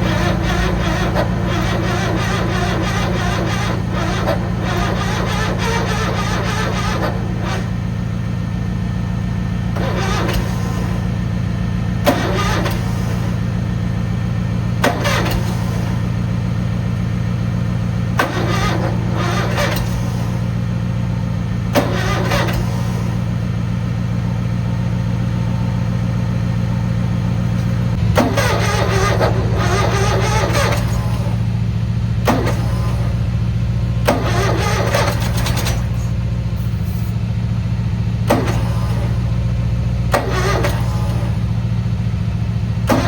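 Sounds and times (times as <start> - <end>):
engine cranking by electric starter: 0.0 - 43.0.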